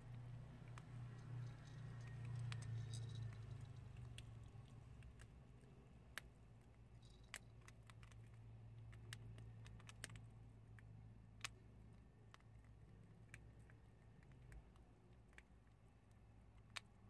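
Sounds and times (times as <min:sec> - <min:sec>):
animals crunching dried beans: 0:00.0 - 0:17.0
faint low hum: 0:00.0 - 0:17.0.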